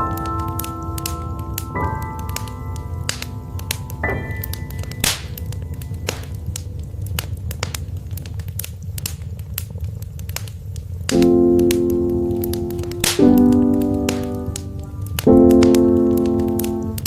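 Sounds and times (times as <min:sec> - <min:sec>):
soft keyboard music: 0:00.0 - 0:08.7, 0:11.1 - 0:17.0
wood fire crackling: 0:00.0 - 0:17.0.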